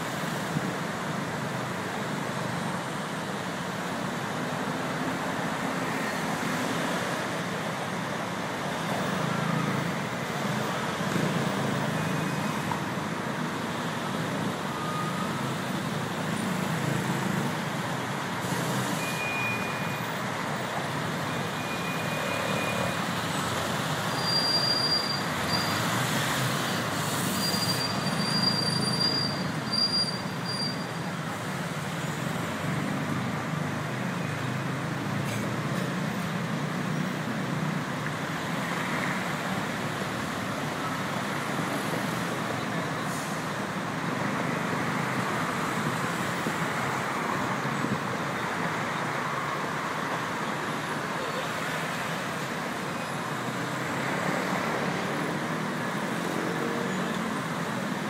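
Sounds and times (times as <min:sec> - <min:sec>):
road traffic: 0:00.0 - 0:58.0
brake squeals: 0:08.6 - 0:58.0.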